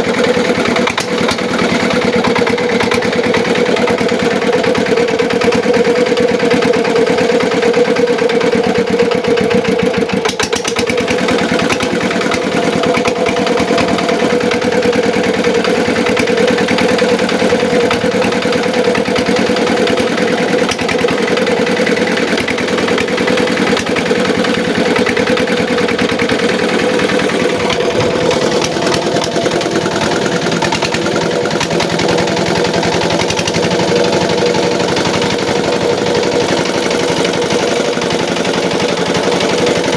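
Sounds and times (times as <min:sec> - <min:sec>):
machine engine running: 0:00.0 - 0:39.9.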